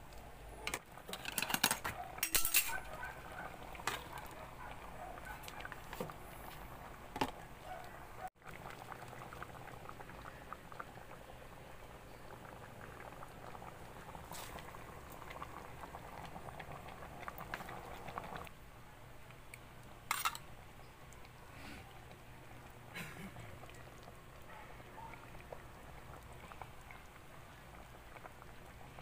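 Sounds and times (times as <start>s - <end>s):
stew bubbling in a pot: 0.0s - 29.0s.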